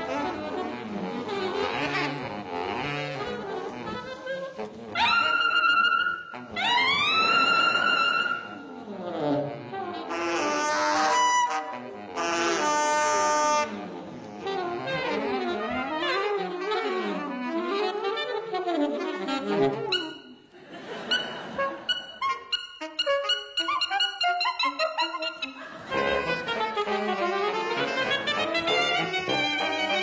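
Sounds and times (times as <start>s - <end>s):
saxophone ensemble playing: 0.0s - 30.0s.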